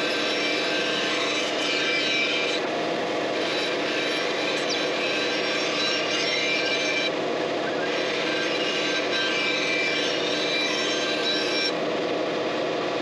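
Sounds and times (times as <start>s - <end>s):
bandsaw blade cutting wood: 0.0s - 2.7s, 3.4s - 7.1s, 7.7s - 11.8s
bandsaw running: 0.0s - 11.9s.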